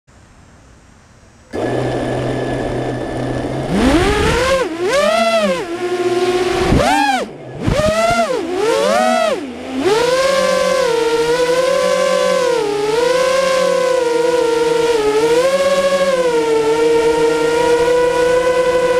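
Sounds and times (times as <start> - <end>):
quadcopter motors whining: 1.5 - 18.9.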